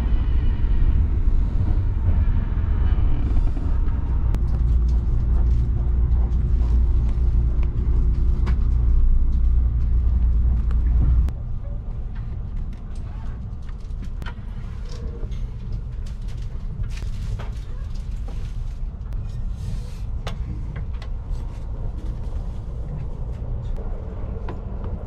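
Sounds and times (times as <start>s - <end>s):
train cabin rumble: 0.0s - 25.0s.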